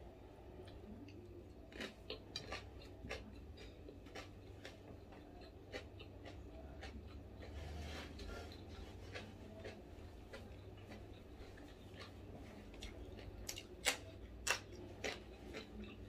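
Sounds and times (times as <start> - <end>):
low steady hum: 0.0 - 16.0
chewing crunchy food: 0.6 - 16.0.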